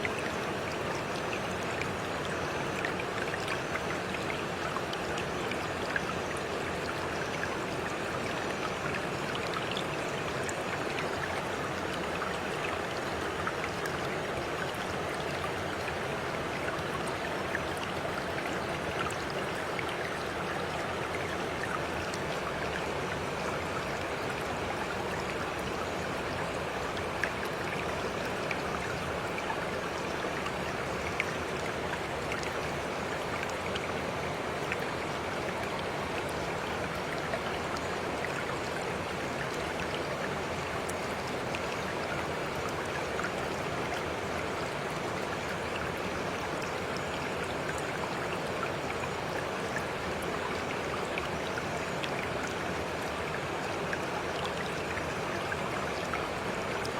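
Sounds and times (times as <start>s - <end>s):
faint drip-like ticks: 0.0s - 56.9s
stream water rushing: 0.0s - 56.9s.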